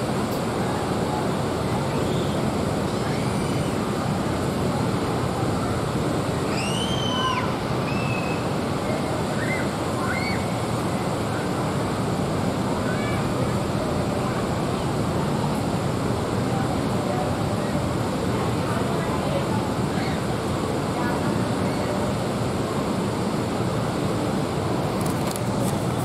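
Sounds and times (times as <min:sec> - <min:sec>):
water noise: 0:00.0 - 0:26.0
wind: 0:00.0 - 0:26.0.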